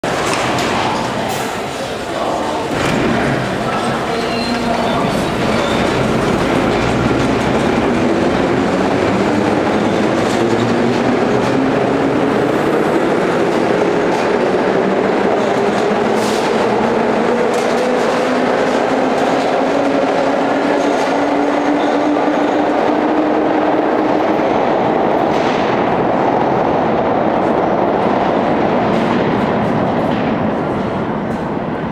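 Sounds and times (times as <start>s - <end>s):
subway train motors whining: 0.0s - 31.9s
train rumble: 0.0s - 31.9s.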